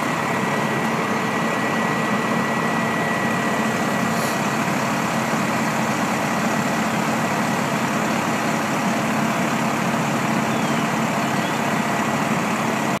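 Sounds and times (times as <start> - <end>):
fire engines idling: 0.0 - 13.0.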